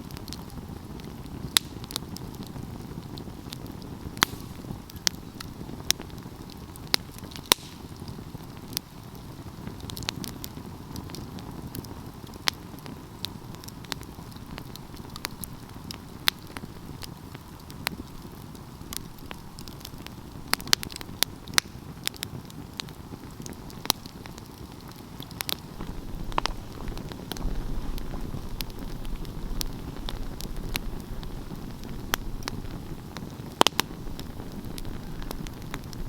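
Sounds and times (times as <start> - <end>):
burning wood crackling and popping: 0.0 - 36.0
low rumble of flames: 0.0 - 36.0.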